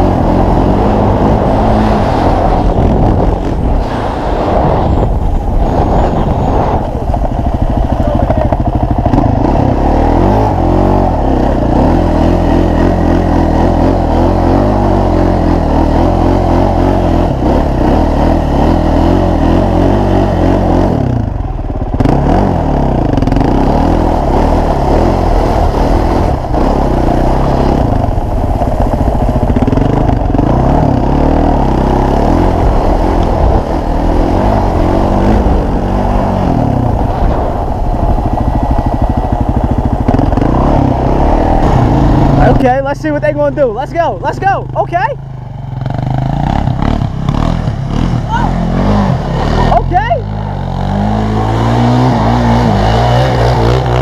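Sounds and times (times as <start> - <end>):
small engine revving: 0.0 - 43.4, 45.7 - 54.0.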